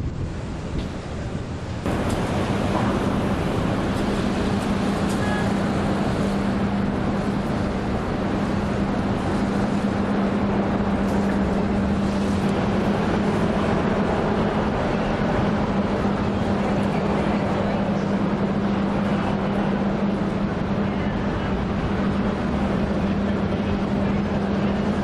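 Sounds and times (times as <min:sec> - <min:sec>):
constant low hum: 0:00.0 - 0:25.0
ship machinery rumble: 0:00.0 - 0:25.0.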